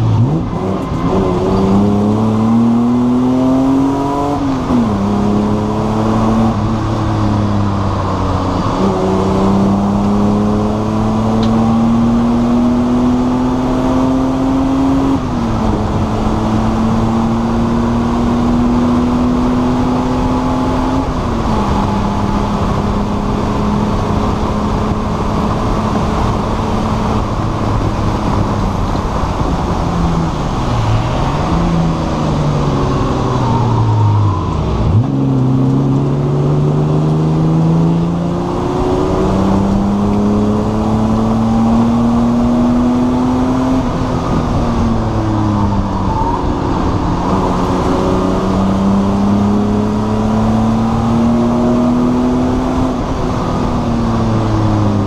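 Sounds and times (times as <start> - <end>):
race car engine at high revs: 0.0 - 55.0
road and wind noise: 0.0 - 55.0.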